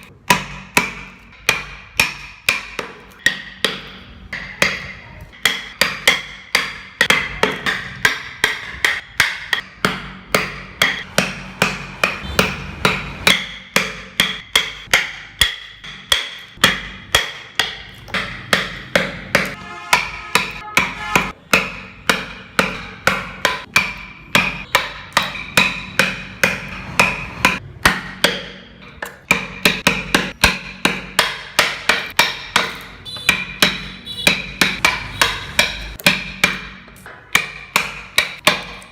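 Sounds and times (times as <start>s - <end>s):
mallet striking chisel into wood: 0.0s - 38.9s.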